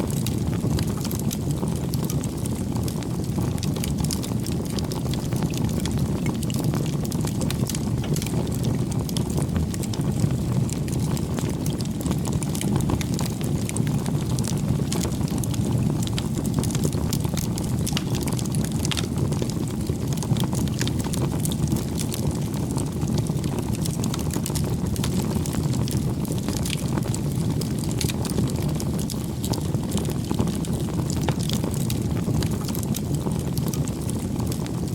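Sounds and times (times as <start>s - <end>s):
low rumble of fire: 0.0s - 34.9s
wood bonfire crackling: 0.0s - 34.9s.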